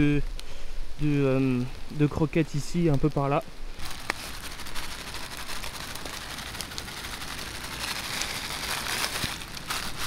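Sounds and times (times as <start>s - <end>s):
rain falling steadily: 0.0s - 10.0s
sharp raindrop ticks: 0.2s - 9.8s.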